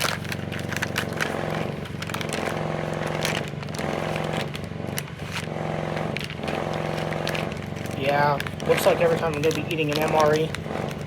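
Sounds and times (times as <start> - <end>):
engine running steadily: 0.0 - 11.0
packaging crinkling and scraping: 0.0 - 11.0.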